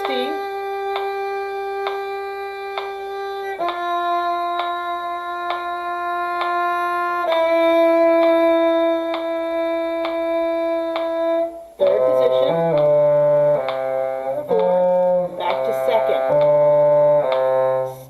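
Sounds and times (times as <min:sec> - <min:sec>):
violin bowed notes: 0:00.0 - 0:18.0.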